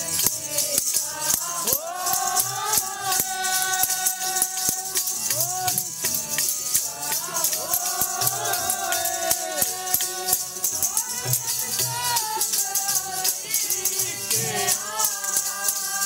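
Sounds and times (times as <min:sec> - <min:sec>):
person singing a hymn: 0:00.0 - 0:05.9, 0:06.8 - 0:16.0
jingling percussion: 0:00.0 - 0:16.0.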